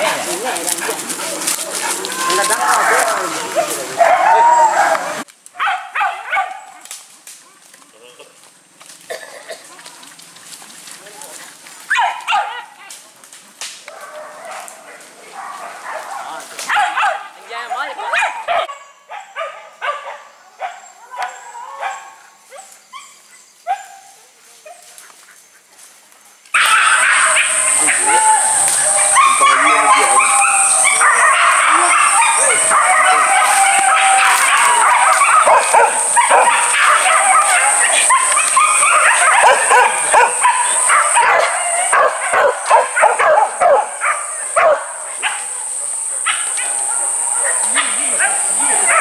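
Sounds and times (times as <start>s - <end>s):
dogs barking and yelping: 0.0s - 6.8s, 11.8s - 12.8s, 13.9s - 25.7s, 26.6s - 49.0s.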